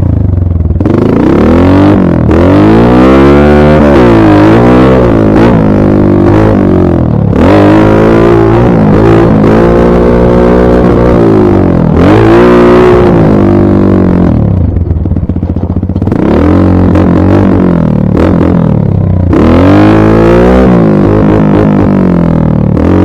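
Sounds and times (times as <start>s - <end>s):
dirt bike engine revving: 0.7s - 23.0s.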